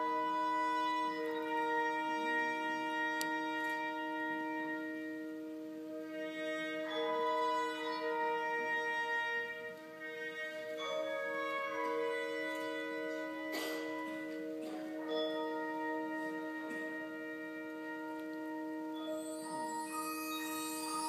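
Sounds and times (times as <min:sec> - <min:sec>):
wind band playing sustained chords: 0:00.0 - 0:21.0.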